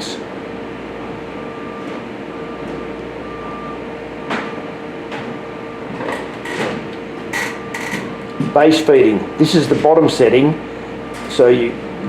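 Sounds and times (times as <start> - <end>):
welder cooling fan hum: 0.0 - 12.0.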